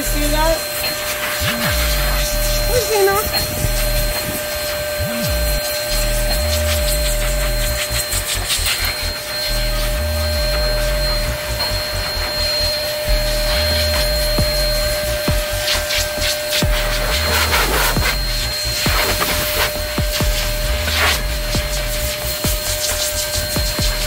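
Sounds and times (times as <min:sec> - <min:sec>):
air rushing from nozzle: 0:00.0 - 0:24.0
blow dryer motor whine: 0:00.0 - 0:24.0.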